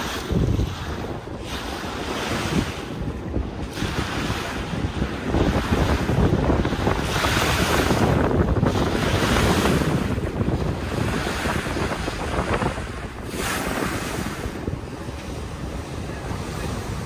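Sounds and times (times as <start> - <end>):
water washing and splashing: 0.0 - 17.0
wind buffeting microphone: 0.0 - 17.0.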